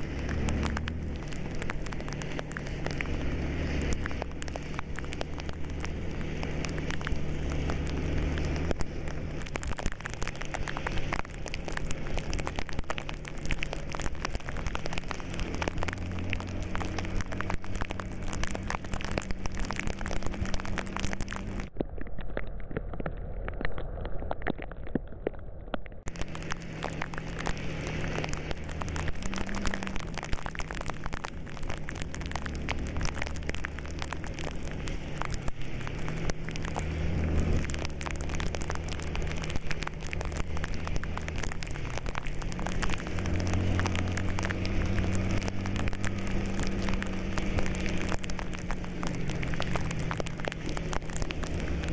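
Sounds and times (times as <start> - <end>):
vehicle engine running low: 0.0 - 21.7, 26.1 - 51.9
rain pattering: 0.0 - 51.9.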